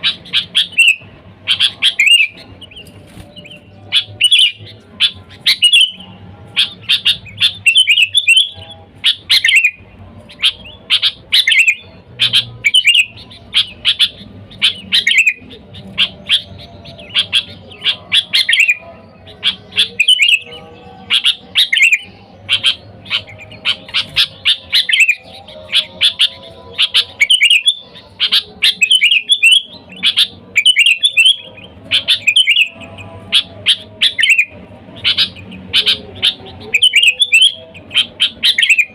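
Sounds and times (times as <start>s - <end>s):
bird chattering calls: 0.0s - 38.9s.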